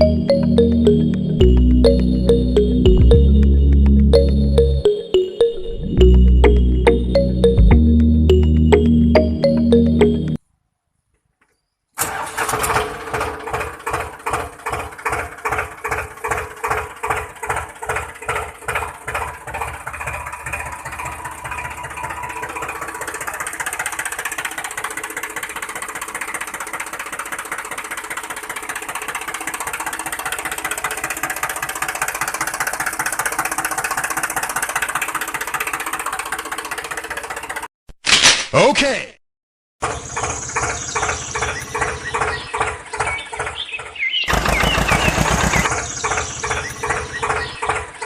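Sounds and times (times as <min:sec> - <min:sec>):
tractor engine starting: 0:00.0 - 0:05.0, 0:12.0 - 0:37.7, 0:39.8 - 0:48.0.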